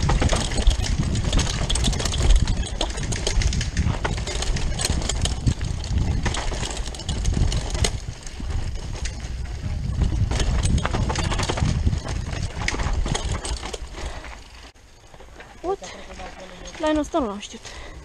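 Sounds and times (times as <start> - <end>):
wind buffeting microphone: 0.0 - 14.6
bike chain and frame rattling: 0.0 - 18.0.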